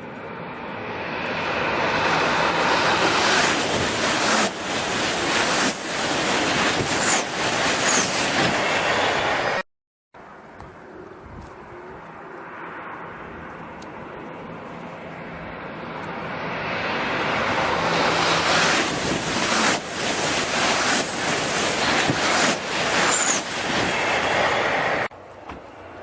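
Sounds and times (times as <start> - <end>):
high-speed train rushing past: 0.0 - 9.6, 12.0 - 26.0.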